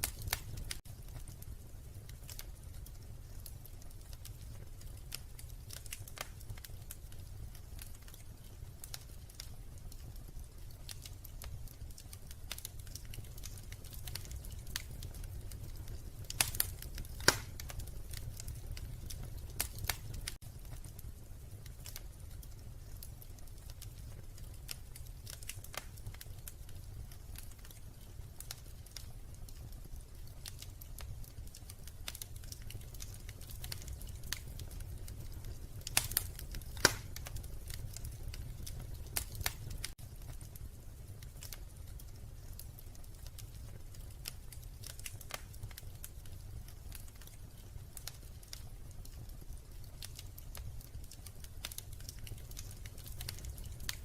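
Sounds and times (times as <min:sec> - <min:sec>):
fire pops and snaps: 0:00.0 - 0:54.0
wood fire crackling: 0:00.0 - 0:54.0.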